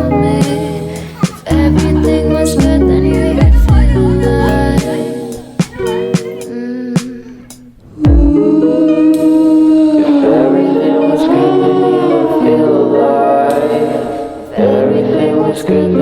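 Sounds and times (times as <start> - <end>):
choir-like vocal harmonies: 0.0 - 16.0.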